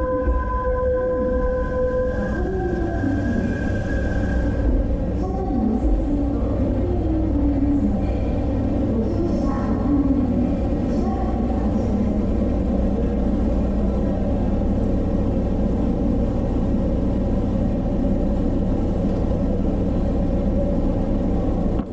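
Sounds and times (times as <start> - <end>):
electric train rolling slowly: 0.0 - 21.9.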